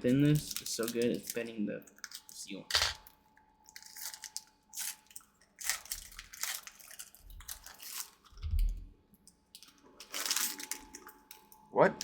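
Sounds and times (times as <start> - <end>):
foil wrapper crinkling: 0.0 - 8.5, 9.5 - 11.6.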